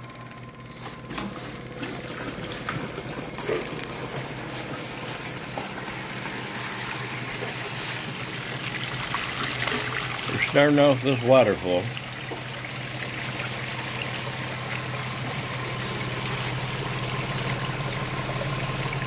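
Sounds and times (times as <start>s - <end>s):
water gushing through hose: 3.3s - 19.0s.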